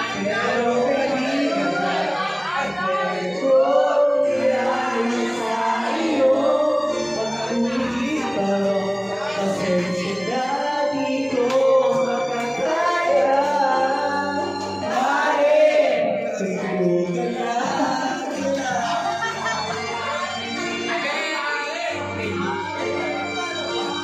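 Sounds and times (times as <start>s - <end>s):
backing music: 0.0s - 24.0s
person singing: 0.0s - 24.0s.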